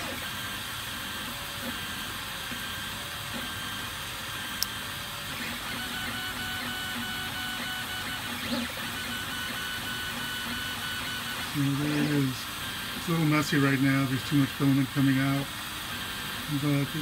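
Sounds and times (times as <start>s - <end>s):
cooling fans whirring: 0.0s - 17.0s
stepper motors whining: 0.0s - 17.0s.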